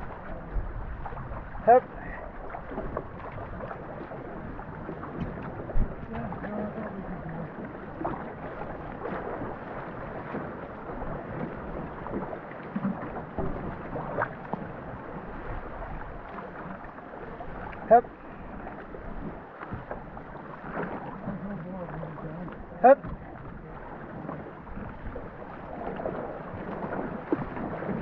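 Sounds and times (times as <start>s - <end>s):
paddles knocking against hull: 0.0s - 28.0s
water rushing and splashing: 0.0s - 28.0s.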